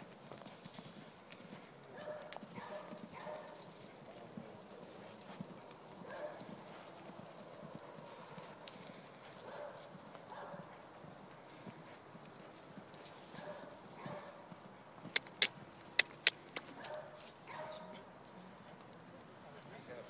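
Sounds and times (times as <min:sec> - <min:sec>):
hoofbeats on soft dirt: 0:00.0 - 0:20.0.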